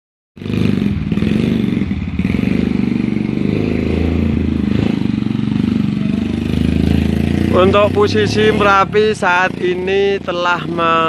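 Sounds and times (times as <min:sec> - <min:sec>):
vehicle engine running: 0:00.4 - 0:11.0.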